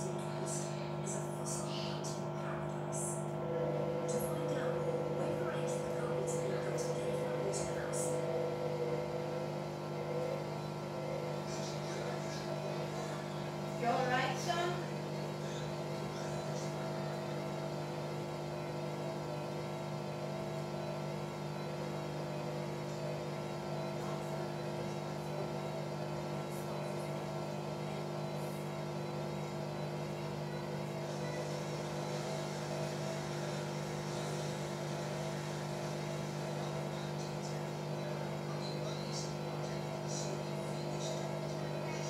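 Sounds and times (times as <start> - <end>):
washing machine drain pump humming: 0.0 - 42.0.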